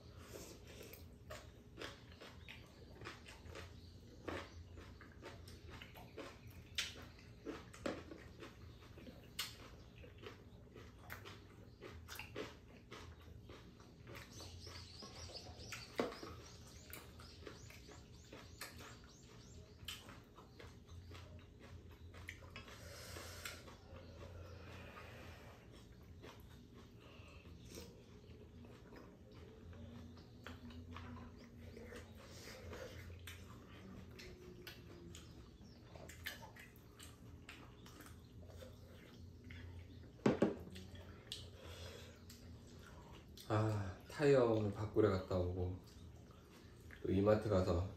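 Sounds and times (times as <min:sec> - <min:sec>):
person sipping and chewing: 0:00.0 - 0:43.5
bird chirping: 0:00.0 - 0:47.9
faint eating sounds: 0:00.0 - 0:47.9.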